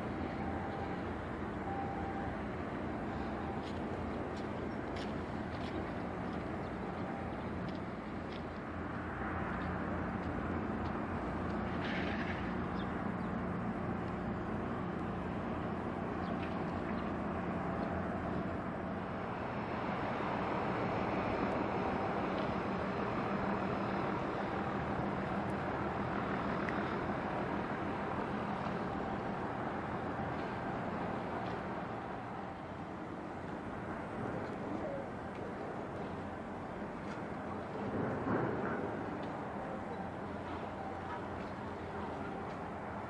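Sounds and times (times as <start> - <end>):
ship diesel engine drone: 0.0 - 43.0.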